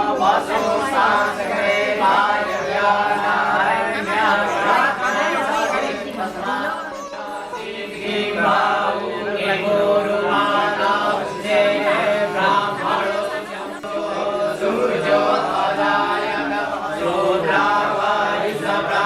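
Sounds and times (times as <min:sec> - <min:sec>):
group of voices chanting: 0:00.0 - 0:19.0.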